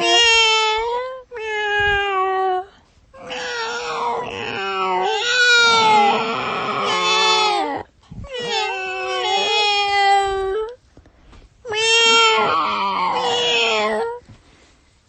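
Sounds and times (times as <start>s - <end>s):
cat meowing: 0.0s - 2.4s, 3.2s - 10.7s, 11.7s - 14.2s.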